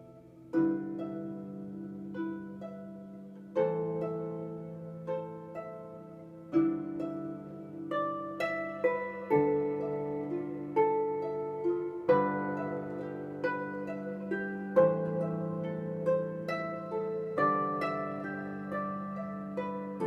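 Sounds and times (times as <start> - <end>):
plucked harp-like notes: 0.0 - 20.0.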